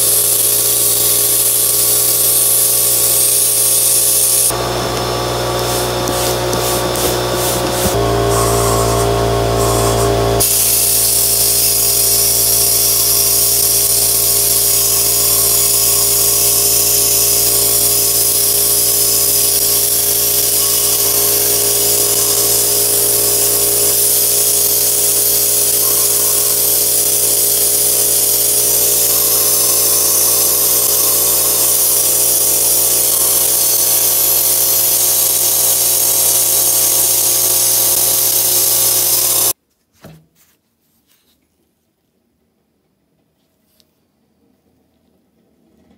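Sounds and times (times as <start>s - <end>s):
sandblasting gun hissing: 0.0s - 39.6s.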